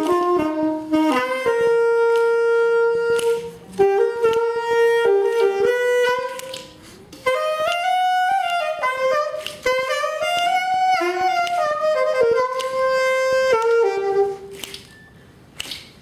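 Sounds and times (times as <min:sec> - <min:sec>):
saxophone slow melody: 0:00.0 - 0:14.6.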